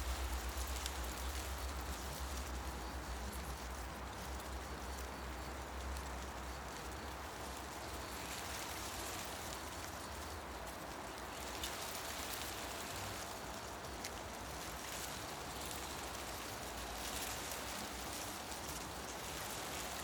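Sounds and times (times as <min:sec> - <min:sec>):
wind rustling leaves: 0:00.0 - 0:20.0.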